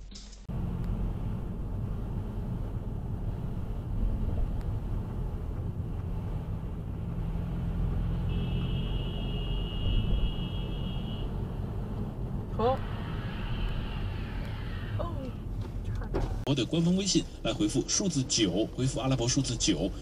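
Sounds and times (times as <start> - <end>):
car driving on wet road: 0.5 - 20.0.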